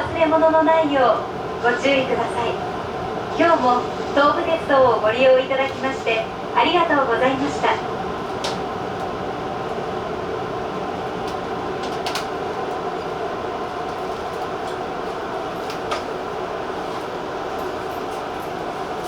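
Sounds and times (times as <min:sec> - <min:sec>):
electric train humming on rails: 0:00.0 - 0:19.0.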